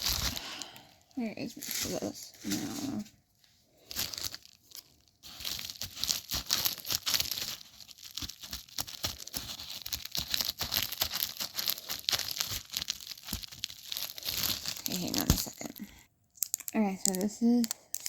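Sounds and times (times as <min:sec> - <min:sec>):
packaging torn and crinkled: 0:00.0 - 0:03.1, 0:03.8 - 0:18.0.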